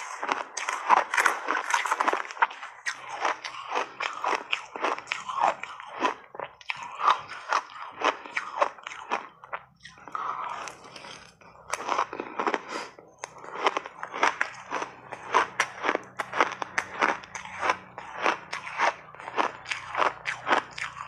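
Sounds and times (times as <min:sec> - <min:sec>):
chewing crunchy ice: 0:00.0 - 0:21.0.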